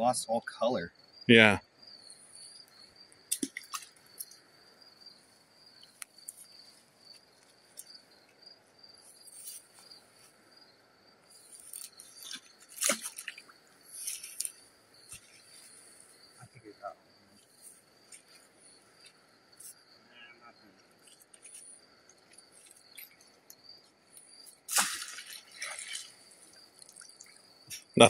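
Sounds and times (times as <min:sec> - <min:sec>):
insects calling: 0:00.0 - 0:28.0.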